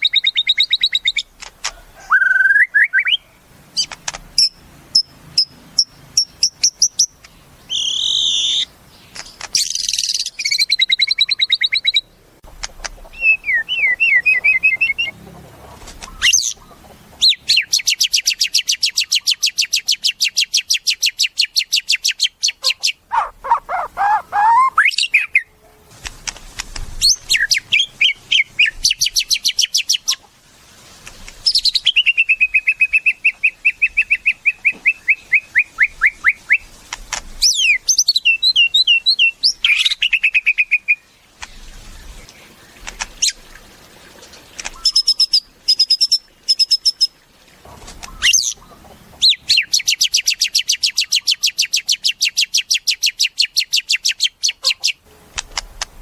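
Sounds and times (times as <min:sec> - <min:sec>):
songbird singing: 0:00.0 - 0:25.9, 0:27.0 - 0:30.3, 0:31.3 - 0:36.8, 0:37.4 - 0:43.6, 0:44.2 - 0:47.2, 0:48.0 - 0:55.2.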